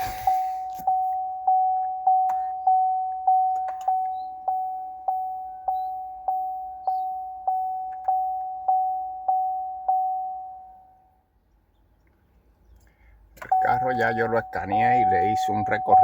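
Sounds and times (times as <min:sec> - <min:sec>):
car warning chime dinging: 0:00.0 - 0:11.2, 0:13.4 - 0:16.0.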